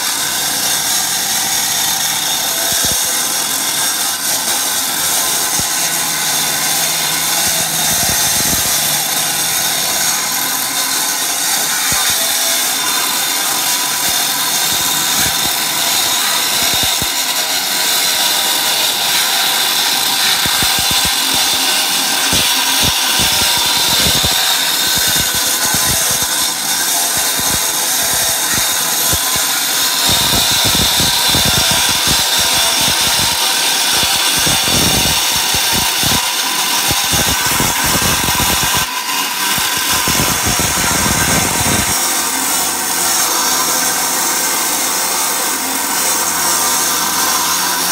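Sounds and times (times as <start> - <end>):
angle grinder cutting concrete: 0.0 - 47.9.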